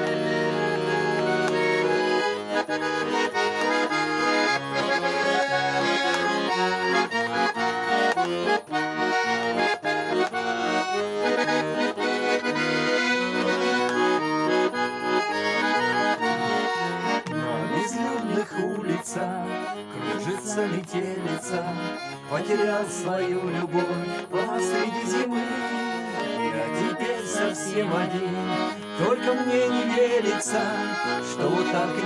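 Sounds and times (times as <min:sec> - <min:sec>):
accordion pop music: 0:00.0 - 0:32.0.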